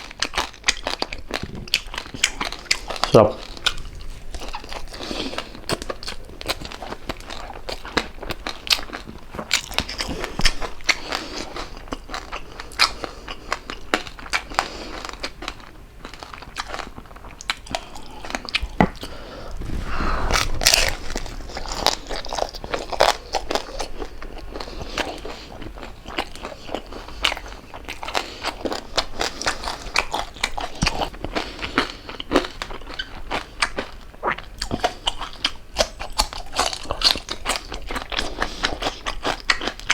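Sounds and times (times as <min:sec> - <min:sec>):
open-mouthed chewing smacks: 0:00.0 - 0:19.6, 0:20.3 - 0:39.9
crunching crispy food: 0:00.0 - 0:39.9.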